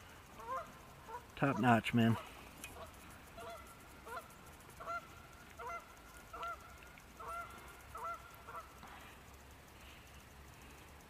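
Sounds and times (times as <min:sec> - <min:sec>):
distant geese honking: 0:00.0 - 0:10.6.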